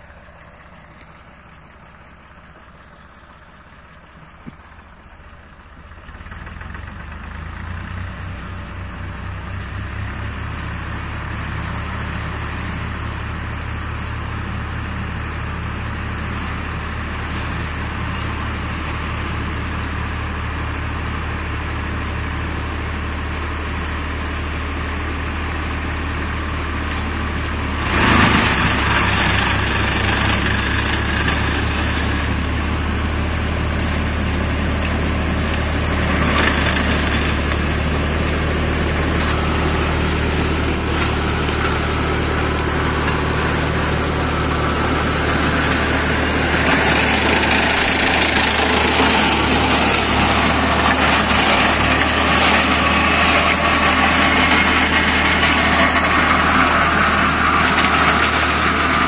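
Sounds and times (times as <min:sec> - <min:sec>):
diesel tractor engine running: 0:00.0 - 0:59.0
flail mulcher shredding brush: 0:00.0 - 0:59.0.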